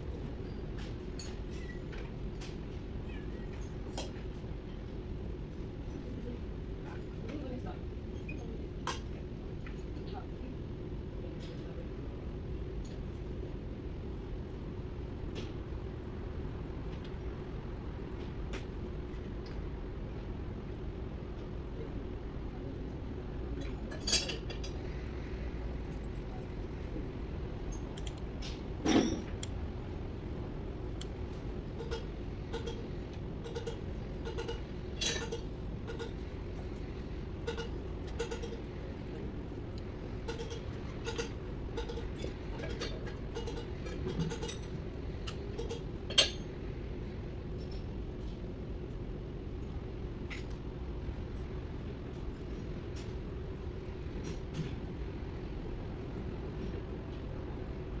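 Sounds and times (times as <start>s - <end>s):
low workshop hum: 0.0s - 58.0s.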